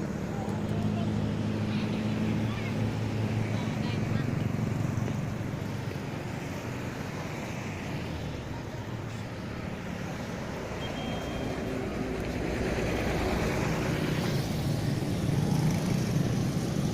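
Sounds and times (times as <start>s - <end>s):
vehicle engine and tyres: 0.0s - 16.9s.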